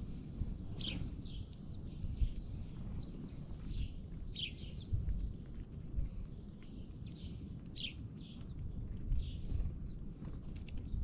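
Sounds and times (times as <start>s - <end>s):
songbirds chip calls: 0.8s - 5.5s, 6.2s - 11.0s.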